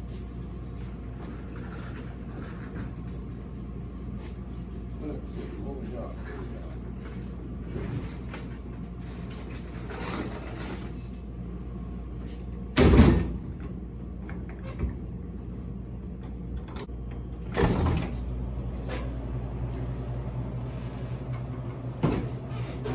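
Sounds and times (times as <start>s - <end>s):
low machine hum: 0.0s - 22.9s.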